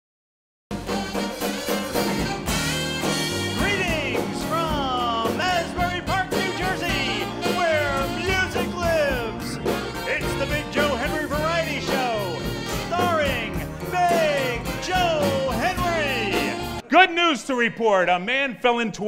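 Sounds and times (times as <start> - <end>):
upbeat band music with singing: 0.8 - 16.9.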